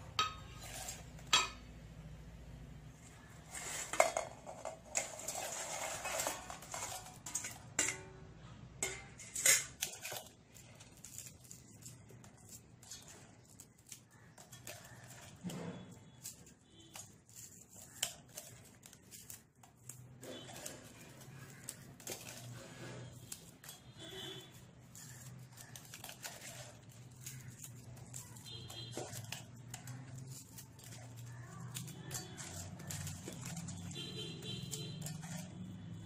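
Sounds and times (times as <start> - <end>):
bread crumbling in a bowl: 0.0 - 1.7, 2.9 - 36.0.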